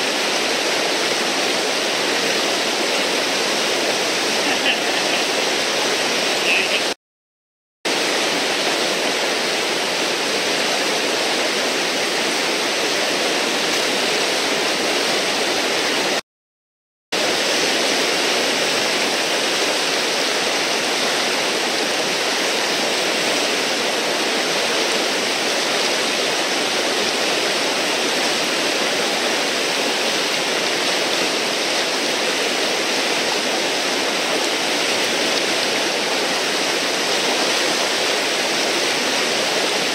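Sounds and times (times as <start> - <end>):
whitewater rushing: 0.0 - 7.0, 7.9 - 16.2, 17.2 - 39.9.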